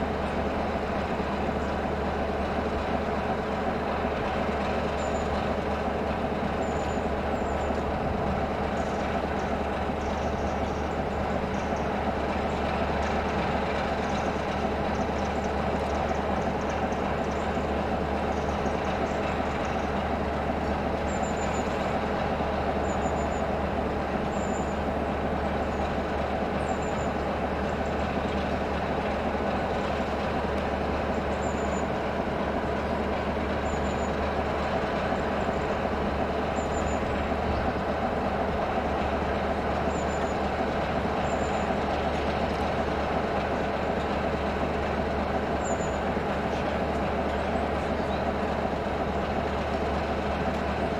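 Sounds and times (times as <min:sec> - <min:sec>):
diesel locomotive engine idling: 0:00.0 - 0:50.9.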